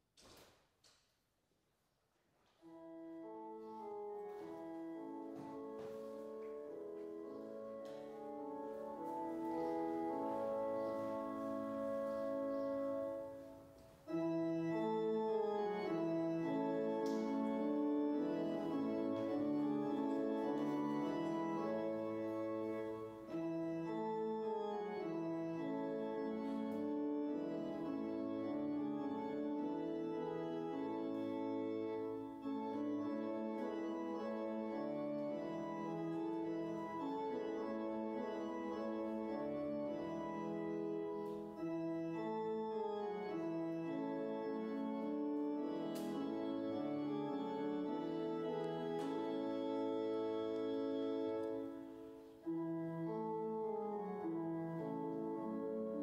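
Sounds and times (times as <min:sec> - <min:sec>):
organ playing slow chords: 0:02.6 - 0:56.0.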